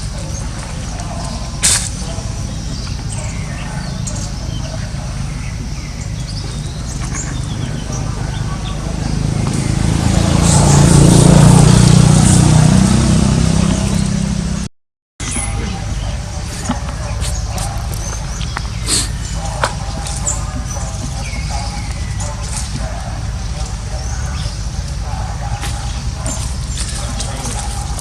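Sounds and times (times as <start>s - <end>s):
motor engine humming: 0.0s - 28.0s.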